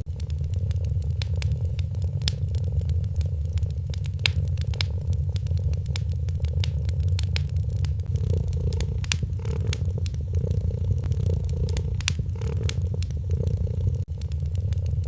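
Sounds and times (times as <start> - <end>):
cat purring: 0.0 - 15.0
wood fire crackling: 0.0 - 15.0
sharp pops: 0.7 - 14.2.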